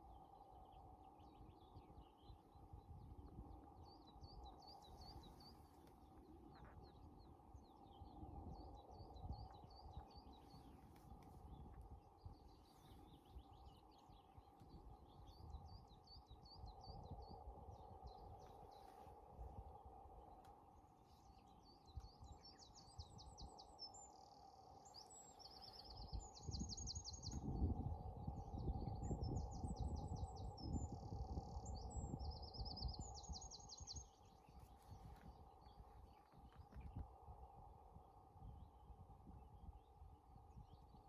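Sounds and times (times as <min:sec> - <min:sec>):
low wind-like rumble: 0:00.0 - 0:41.0
songbird chirping: 0:00.0 - 0:41.0.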